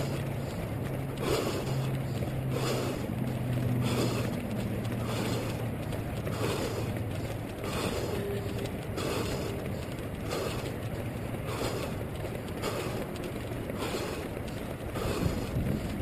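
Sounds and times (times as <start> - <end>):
constant low hum: 0.0 - 16.0
muffled wind and rustling: 0.0 - 16.0.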